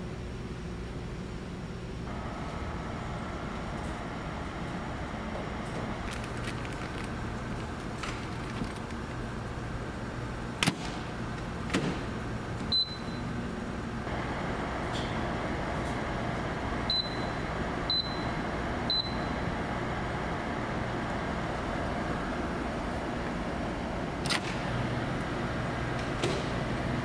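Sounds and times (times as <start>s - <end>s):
mid-pitched hum: 0.0s - 27.0s
ferry engine hum: 1.8s - 27.0s.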